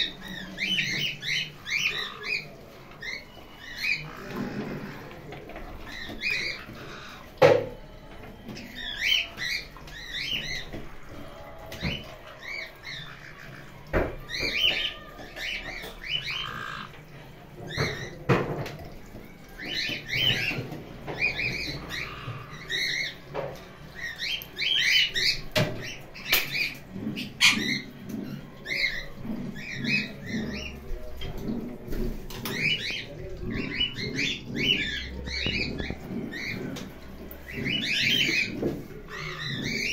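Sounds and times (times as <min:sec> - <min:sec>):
parrots chirping: 0:00.0 - 0:39.9.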